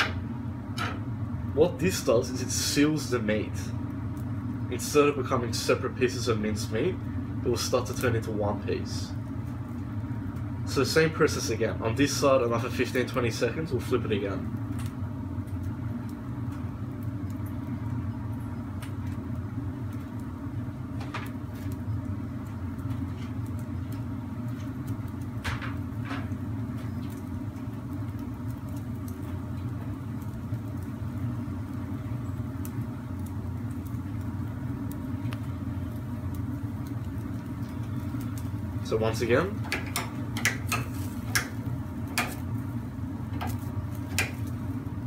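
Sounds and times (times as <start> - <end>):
grill and ventilation hum: 0.0 - 45.0.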